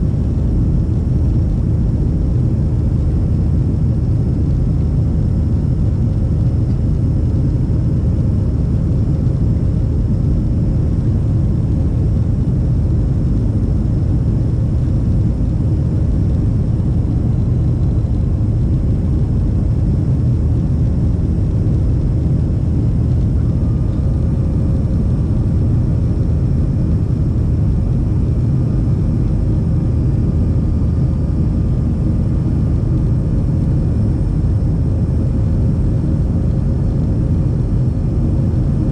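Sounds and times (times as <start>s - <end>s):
faint steady whine: 0.0s - 38.9s
jet cabin engine rumble: 0.0s - 38.9s.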